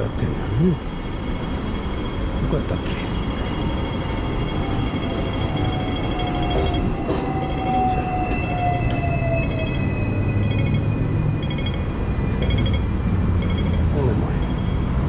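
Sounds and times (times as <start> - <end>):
high whining tones: 0.0 - 15.0
vehicle rumble: 0.0 - 15.0.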